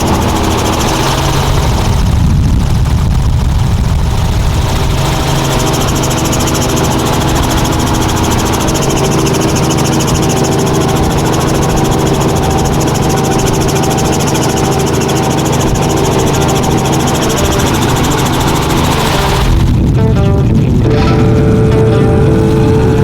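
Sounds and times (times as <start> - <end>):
helicopter running: 0.0 - 23.0.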